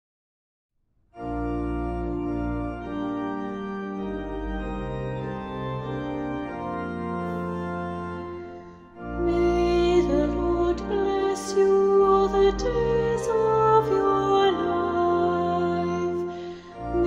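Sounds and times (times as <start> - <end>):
church organ chords: 1.2 - 17.0.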